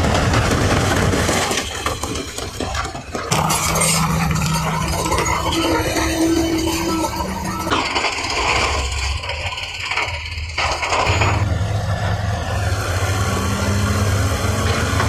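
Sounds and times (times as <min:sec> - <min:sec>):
construction machinery diesel engine: 0:00.0 - 0:15.0
low engine drone: 0:00.0 - 0:15.0.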